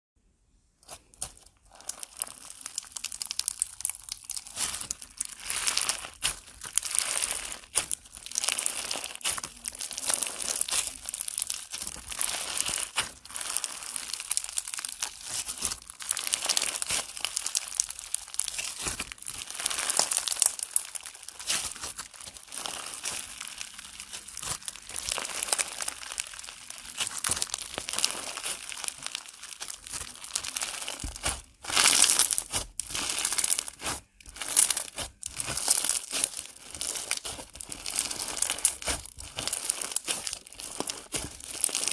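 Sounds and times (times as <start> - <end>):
crunchy slime crackling: 0.8 - 41.9.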